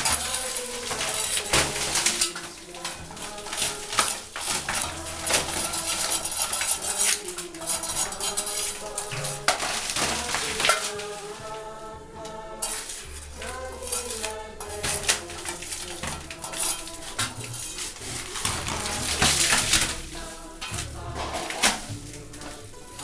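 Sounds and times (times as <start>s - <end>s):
metal tool scraping tile and plaster: 0.0s - 11.1s, 12.6s - 21.9s.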